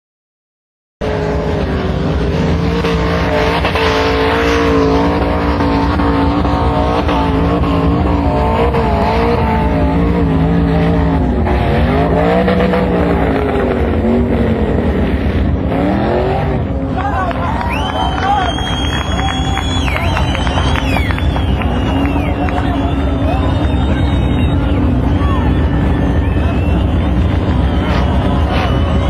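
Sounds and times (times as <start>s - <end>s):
vehicle engine revving: 1.0s - 29.0s.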